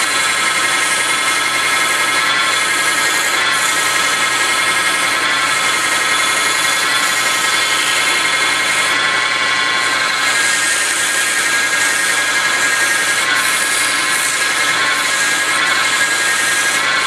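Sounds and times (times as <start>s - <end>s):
sandpaper hissing on spinning wood: 0.0s - 17.0s
wood lathe whine: 0.0s - 17.0s.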